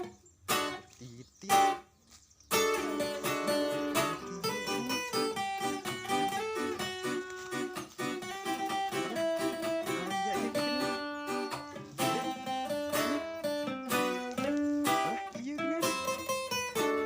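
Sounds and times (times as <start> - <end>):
plucked acoustic guitar melody: 0.0 - 17.0.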